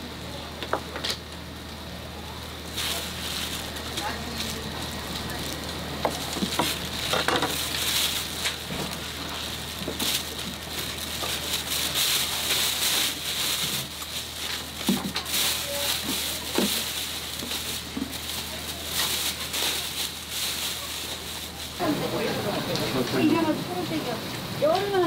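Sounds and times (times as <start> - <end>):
steady low hum: 1.2 - 24.8
plastic bag crinkling: 2.6 - 23.6.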